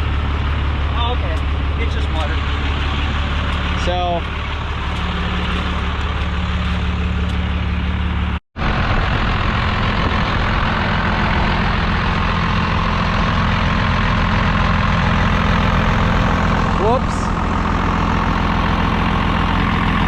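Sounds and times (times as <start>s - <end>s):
diesel pickup engine idling: 0.0s - 20.0s.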